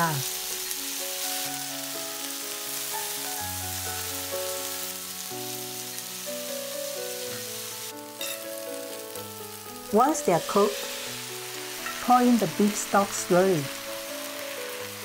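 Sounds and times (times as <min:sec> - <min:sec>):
background music of held notes: 0:00.0 - 0:15.0
stir-fry sizzling in a wok: 0:00.0 - 0:15.0.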